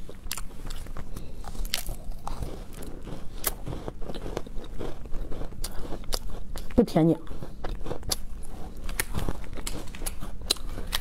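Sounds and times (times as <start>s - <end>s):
person chewing crunchy cookie: 0.0s - 11.0s.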